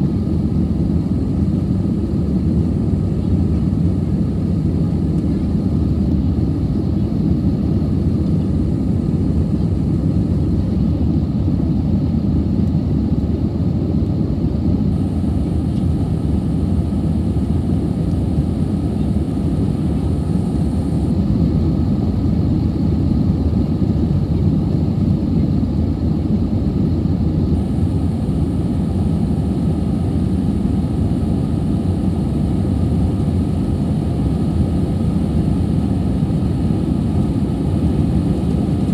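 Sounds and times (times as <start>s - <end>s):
jet engine cabin noise: 0.0s - 38.9s.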